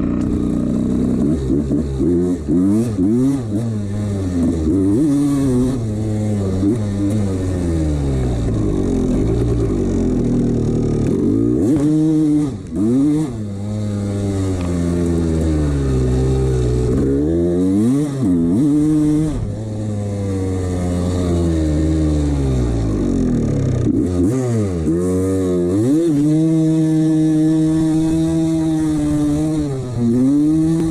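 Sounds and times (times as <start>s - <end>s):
two-stroke engine revving: 0.0s - 30.9s.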